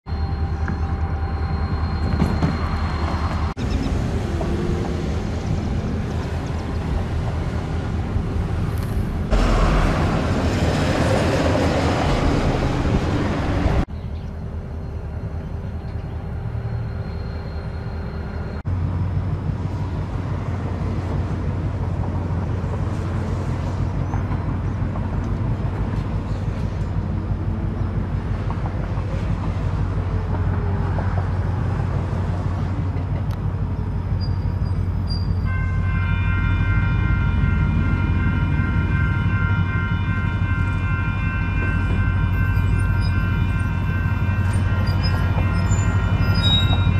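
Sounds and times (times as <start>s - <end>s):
diesel locomotive engine rumbling: 0.0s - 46.9s.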